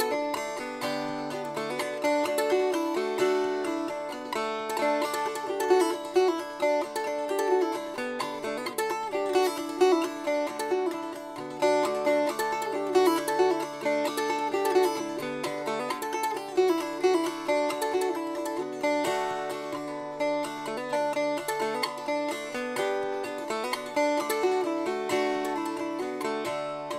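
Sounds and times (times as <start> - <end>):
plucked strings music with beat: 0.0 - 26.9.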